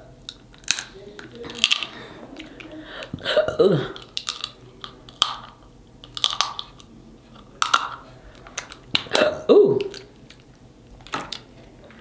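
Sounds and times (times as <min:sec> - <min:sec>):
crab shell cracking: 0:00.2 - 0:03.1, 0:03.9 - 0:11.5.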